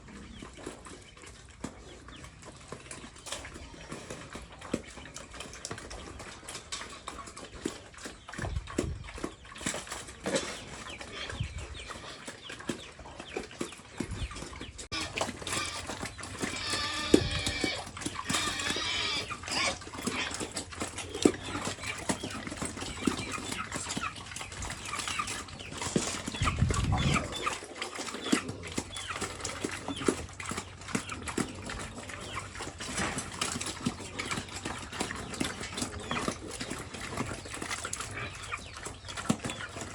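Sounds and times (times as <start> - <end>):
pigs chomping: 0.0 - 39.9.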